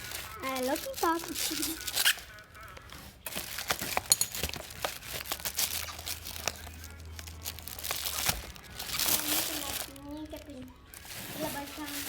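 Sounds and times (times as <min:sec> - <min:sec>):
packaging crinkling and snapping: 0:00.0 - 0:12.0.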